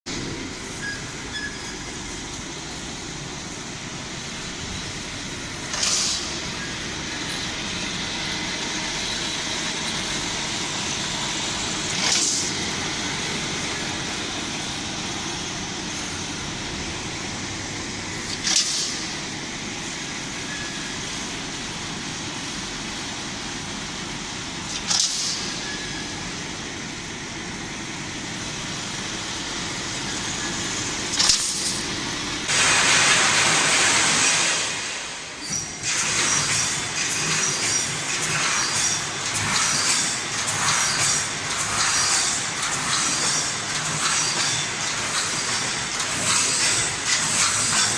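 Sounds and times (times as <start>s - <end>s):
welding machine running: 0.1s - 47.9s.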